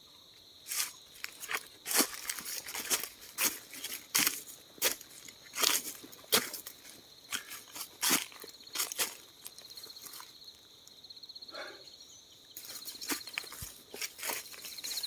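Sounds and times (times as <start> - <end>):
footsteps crunching dry leaves: 0.7 - 10.4, 12.6 - 15.0.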